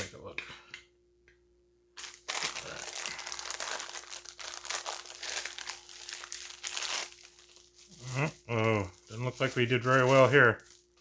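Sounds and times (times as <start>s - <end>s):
plastic bag crinkling: 2.0s - 11.0s.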